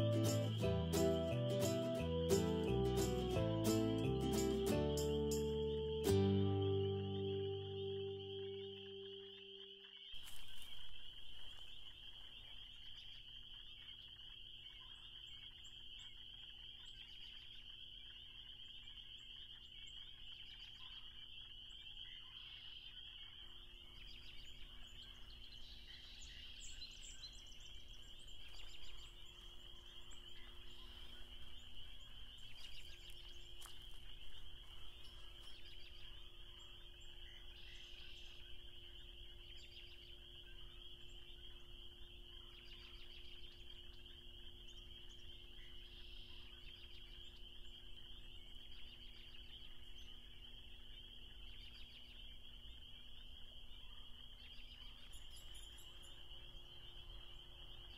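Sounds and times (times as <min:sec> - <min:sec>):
songbird calls: 0:00.0 - 0:57.9
spring peepers trilling: 0:00.0 - 0:57.9.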